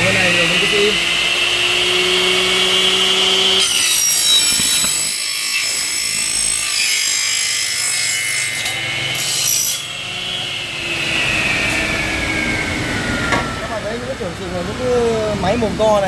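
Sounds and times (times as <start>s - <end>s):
saw screeching through aluminium: 0.0s - 14.3s
saw motor hum and whine: 0.0s - 16.0s.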